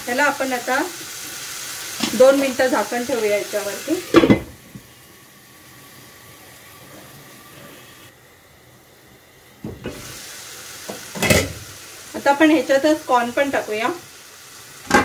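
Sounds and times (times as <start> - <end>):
vegetables sizzling: 0.0 - 15.0.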